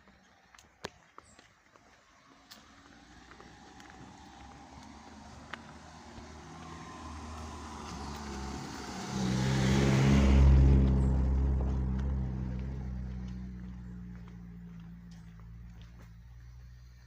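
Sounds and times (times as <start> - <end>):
vehicle passing close: 2.0 - 16.6.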